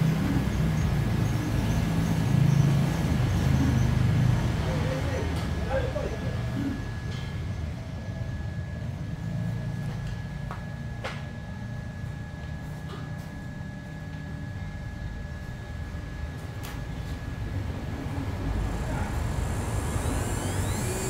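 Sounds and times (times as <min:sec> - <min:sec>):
cnc router running: 0:00.0 - 0:21.0.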